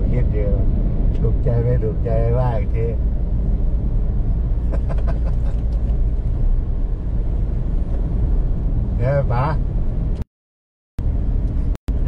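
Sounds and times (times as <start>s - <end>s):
car driving rumble: 0.0s - 10.2s, 11.0s - 12.0s.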